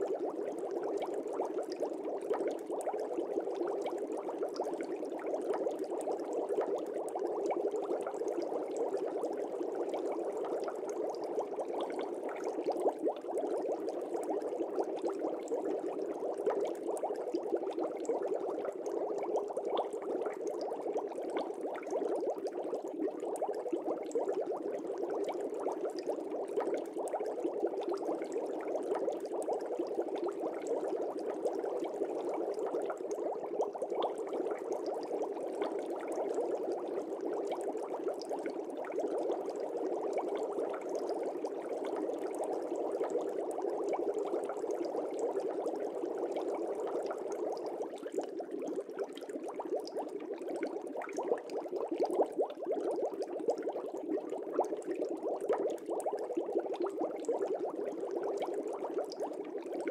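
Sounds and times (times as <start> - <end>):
aquarium air bubbling: 0.0 - 59.9.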